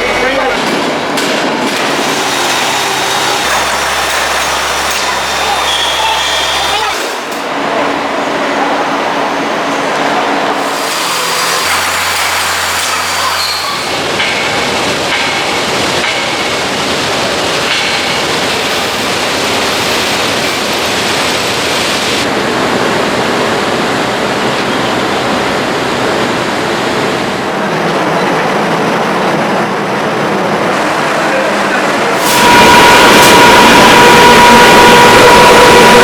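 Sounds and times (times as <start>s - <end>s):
industrial machinery hiss and rumble: 0.0s - 36.0s.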